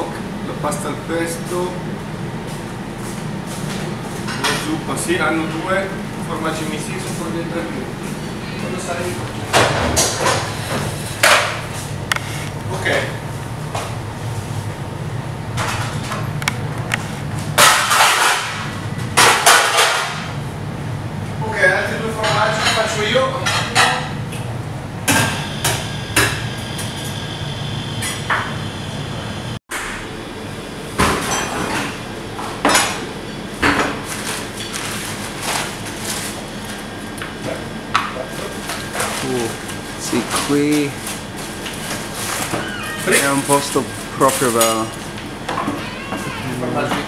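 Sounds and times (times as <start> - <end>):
kitchen low hum: 0.0 - 47.0.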